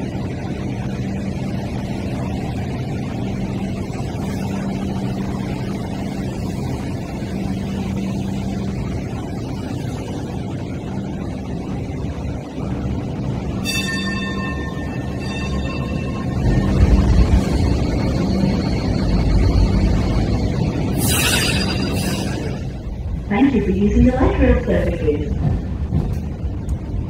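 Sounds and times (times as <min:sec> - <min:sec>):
low machine hum: 0:00.0 - 0:27.0
rumbling background: 0:00.0 - 0:27.0.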